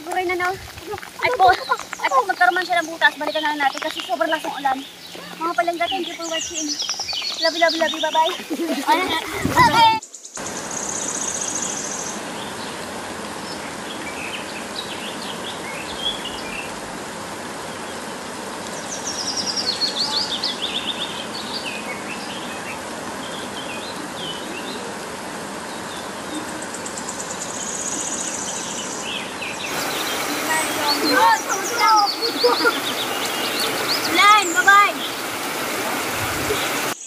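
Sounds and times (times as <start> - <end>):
birds chirping: 0.0 - 16.8, 17.4 - 37.0
heavy rain hissing: 0.0 - 37.0.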